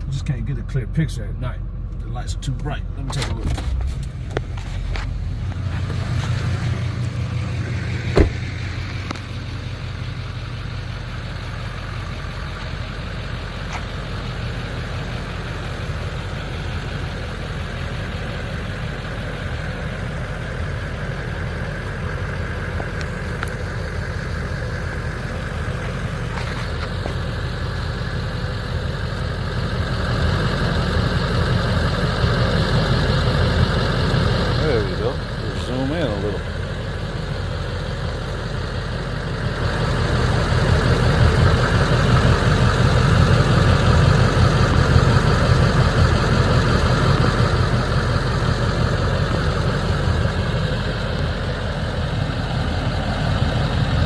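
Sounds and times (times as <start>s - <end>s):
pickup engine idling: 0.0s - 54.0s.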